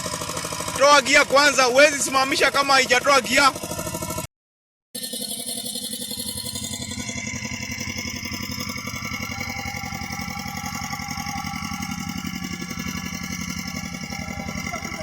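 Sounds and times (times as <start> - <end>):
tractor engine running: 0.0 - 4.3, 5.4 - 15.0.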